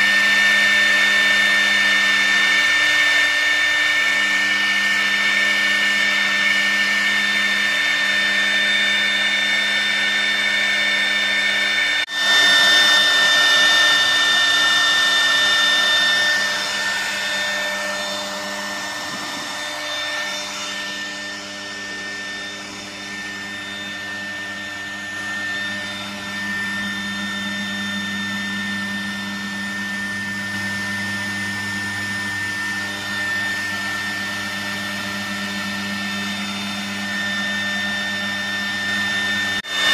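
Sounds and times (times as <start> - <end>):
router bit cutting wood: 0.0 - 39.9
spindle high whine: 0.0 - 39.9.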